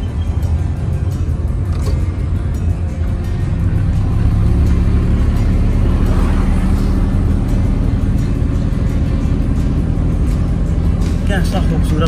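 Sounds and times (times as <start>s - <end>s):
car engine and road noise: 0.0s - 12.0s
music playing: 0.0s - 12.0s.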